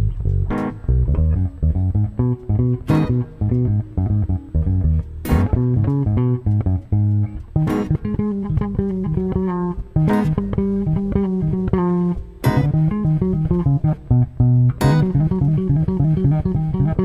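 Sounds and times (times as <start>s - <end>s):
bass guitar solo: 0.0s - 17.0s.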